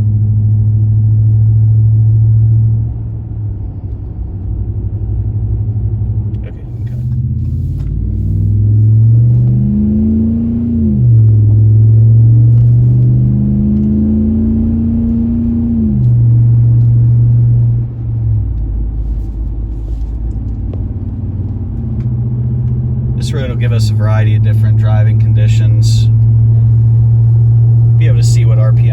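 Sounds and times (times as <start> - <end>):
truck exhaust accelerating: 0.0 - 28.9.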